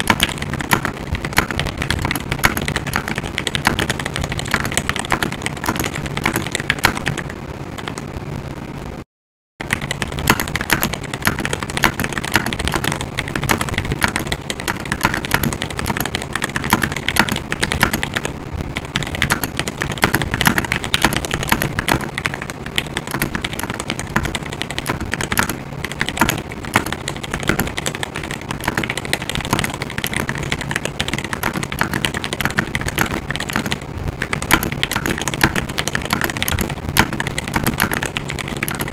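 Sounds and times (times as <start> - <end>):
mechanical keyboard typing: 0.0 - 8.1, 9.6 - 38.9.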